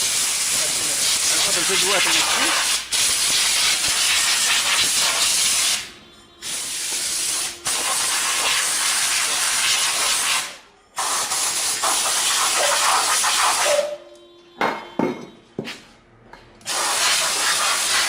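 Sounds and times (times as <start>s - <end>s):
compressed air hissing: 0.0s - 13.9s, 16.6s - 18.0s.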